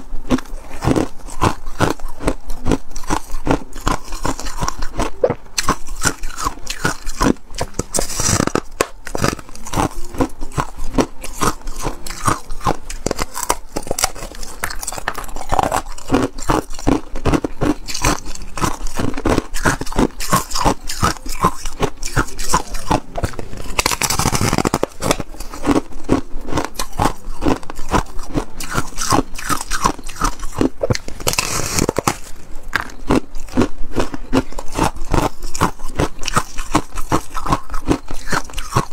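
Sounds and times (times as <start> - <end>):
chewing and crunching ice: 0.0 - 38.9.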